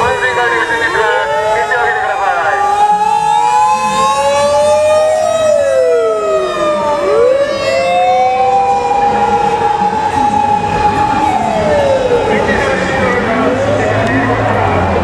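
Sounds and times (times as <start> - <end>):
emergency sirens wailing: 0.0 - 15.0.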